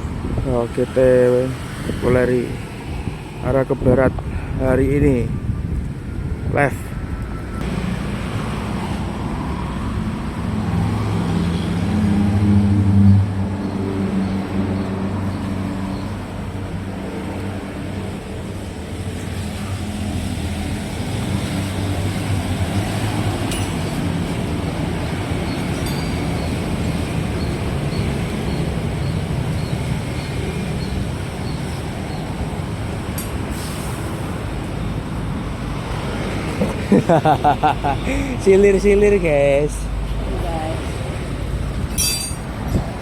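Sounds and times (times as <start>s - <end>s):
road noise: 0.0s - 43.0s.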